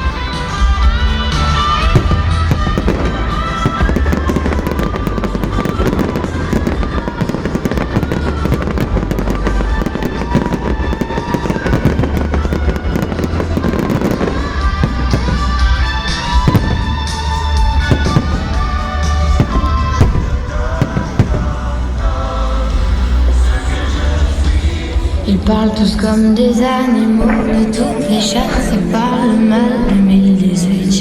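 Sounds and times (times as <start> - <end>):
fireworks crackling and popping: 0.0 - 26.4
music with heavy bass: 0.0 - 26.7.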